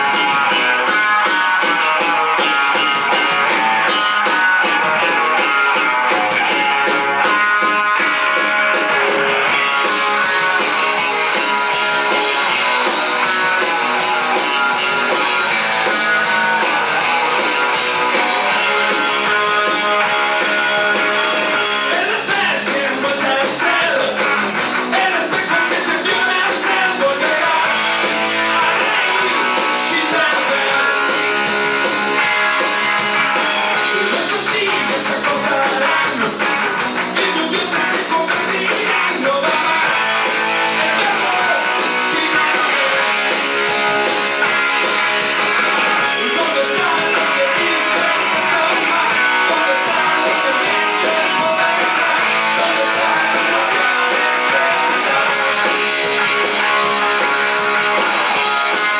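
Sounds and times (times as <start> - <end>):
rock music with guitars: 0.0 - 58.9.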